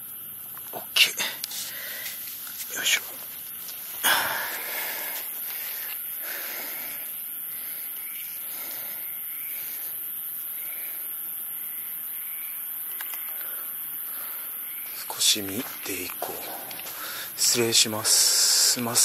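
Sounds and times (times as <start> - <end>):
insects chirping high-pitched: 0.0 - 19.0
lower insect chirps: 0.0 - 19.0.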